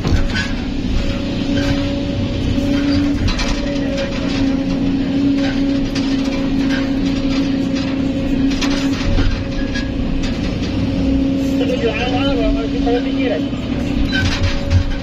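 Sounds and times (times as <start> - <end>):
excavator engine and hydraulics: 0.0 - 15.0.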